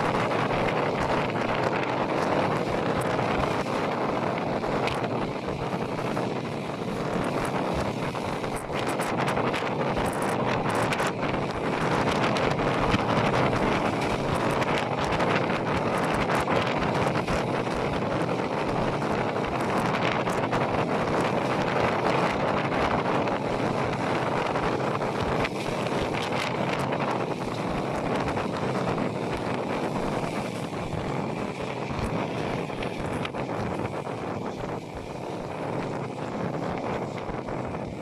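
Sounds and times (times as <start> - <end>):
train running on rails: 0.0 - 38.0
wind buffeting microphone: 0.0 - 38.0.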